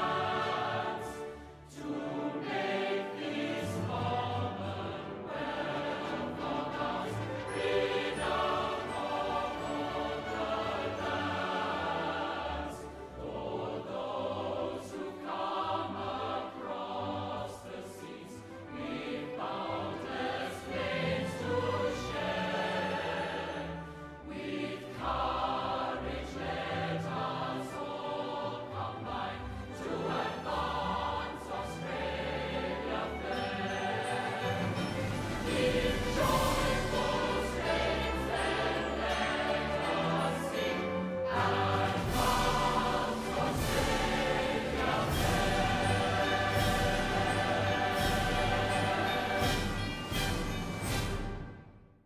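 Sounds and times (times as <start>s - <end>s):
choir singing held notes: 0.0s - 51.5s.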